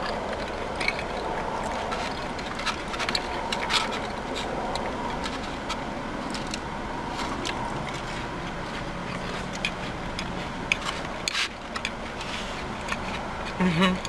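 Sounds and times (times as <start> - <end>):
person chewing: 0.0 - 14.0
steady low hum: 0.0 - 14.0.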